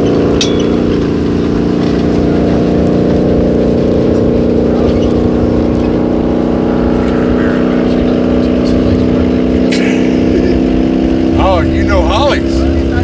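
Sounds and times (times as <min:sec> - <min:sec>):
distant race car engine drone: 0:00.0 - 0:13.0.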